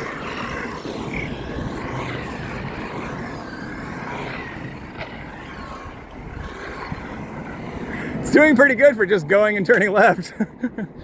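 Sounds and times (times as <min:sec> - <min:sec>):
tyres rumbling on hard surface: 0:00.0 - 0:10.2.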